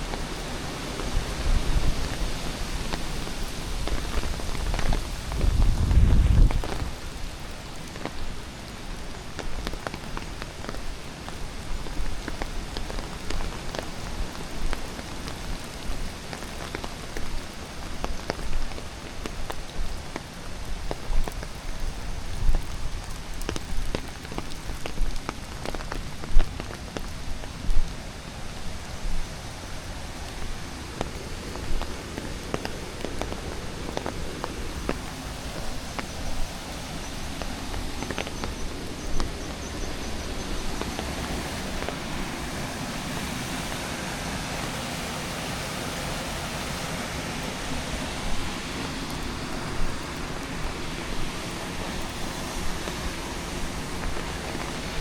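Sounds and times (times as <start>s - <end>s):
falling water hissing: 0.0s - 55.0s
water drips and ticks: 0.0s - 55.0s.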